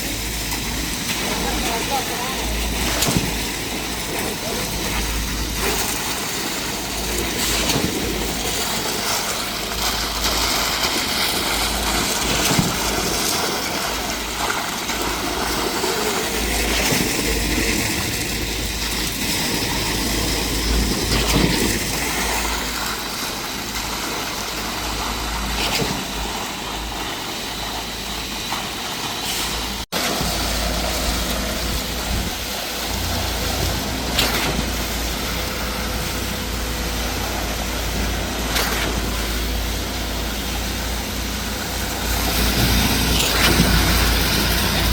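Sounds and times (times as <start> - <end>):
concrete pump engine running: 0.0 - 44.9.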